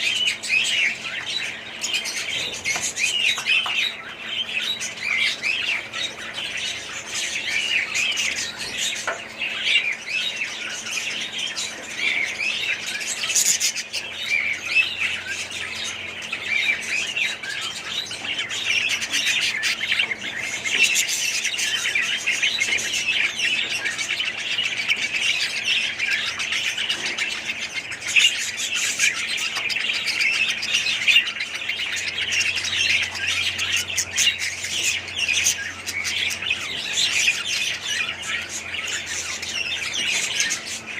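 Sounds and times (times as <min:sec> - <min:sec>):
parrots chattering and squawking: 0:00.0 - 0:40.9.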